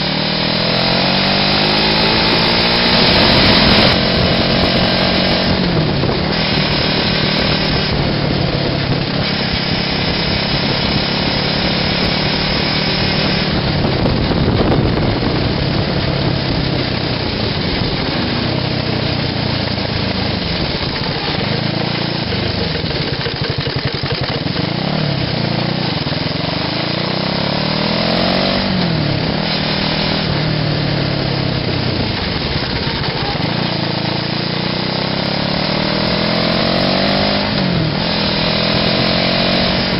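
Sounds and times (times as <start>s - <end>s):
buggy engine revving: 0.0s - 39.9s.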